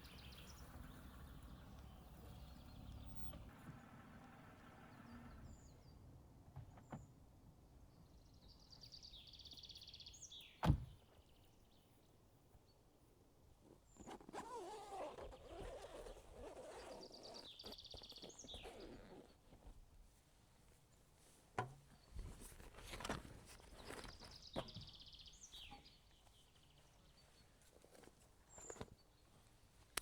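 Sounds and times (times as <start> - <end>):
faint forest ambience: 0.0 - 30.0.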